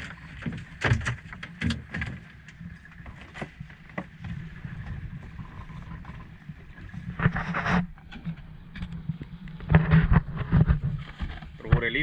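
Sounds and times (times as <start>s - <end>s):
knocks and rustles of fishing line: 0.0s - 12.0s
wind and sea noise: 0.0s - 12.0s.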